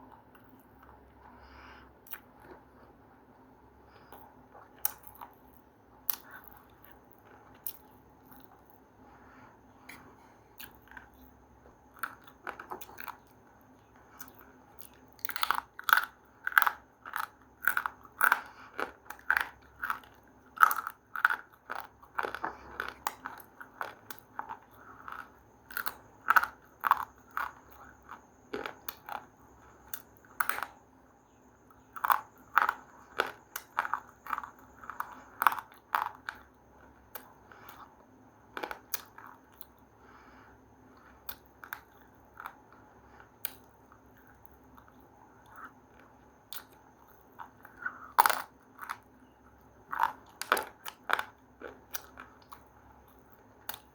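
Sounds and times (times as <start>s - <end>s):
crunching and chewing: 2.0s - 2.7s, 3.9s - 53.9s.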